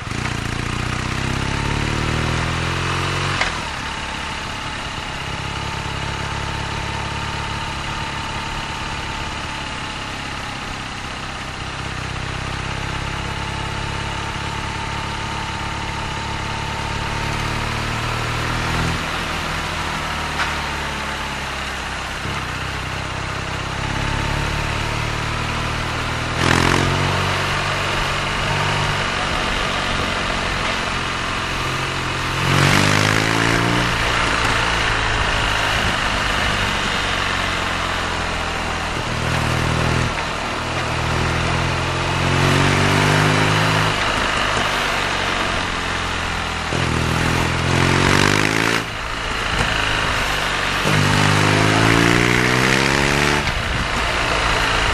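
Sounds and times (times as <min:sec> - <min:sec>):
motorcycle engine accelerating: 0:00.0 - 0:54.9
road and wind noise: 0:00.0 - 0:54.9.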